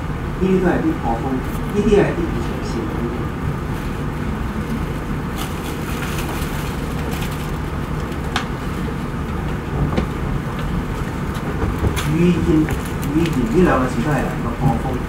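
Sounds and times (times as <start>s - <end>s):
room noise rumble and hiss: 0.0s - 15.0s.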